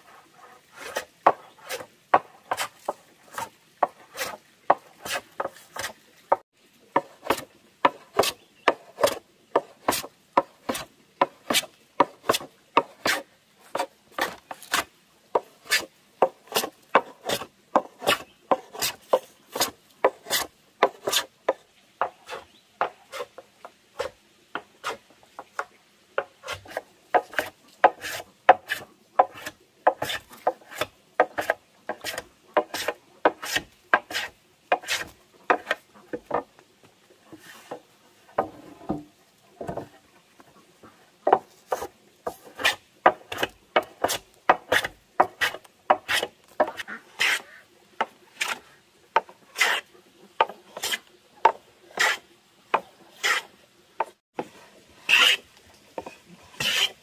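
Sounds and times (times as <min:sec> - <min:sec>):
hand saw cutting wood: 0:00.0 - 0:06.4, 0:07.0 - 0:36.5, 0:41.3 - 0:57.0.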